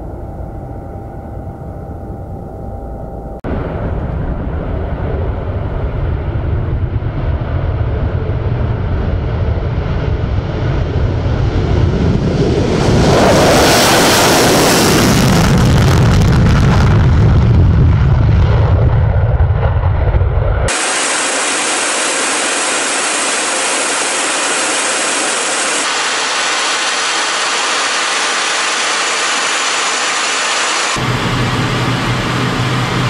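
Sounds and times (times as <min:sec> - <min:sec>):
jet engine roar: 0:03.4 - 0:33.0.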